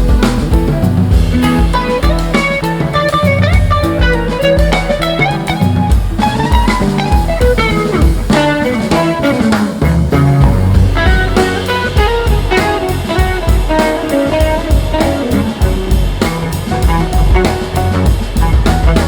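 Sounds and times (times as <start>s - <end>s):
bass line: 0.0s - 19.0s
drum kit beat: 0.0s - 19.0s
guitar melody with bends: 0.0s - 19.0s.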